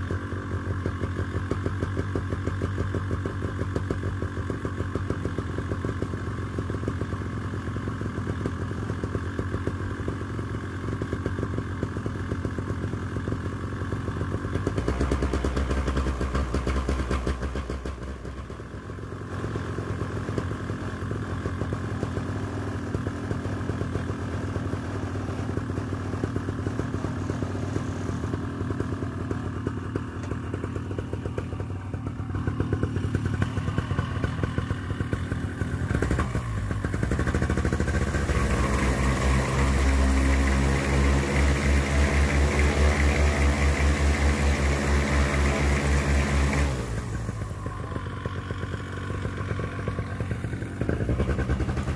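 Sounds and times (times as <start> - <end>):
paramotor engine running: 0.0 - 51.9.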